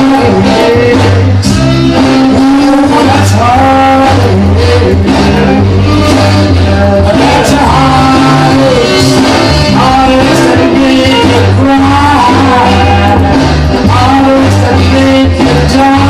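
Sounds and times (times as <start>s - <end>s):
rock and roll record: 0.0s - 16.0s.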